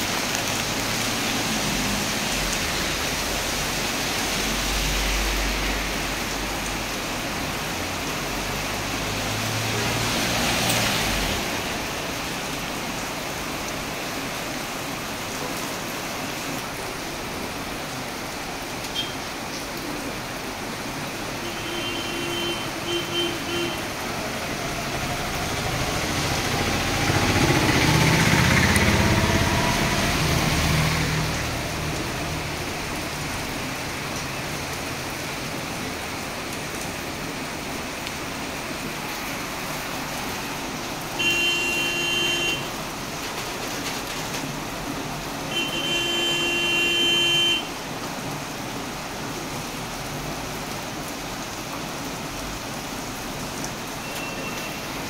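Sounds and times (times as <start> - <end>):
heavy rain on a street: 0.0 - 55.0
vehicles driving on wet road: 0.0 - 55.0.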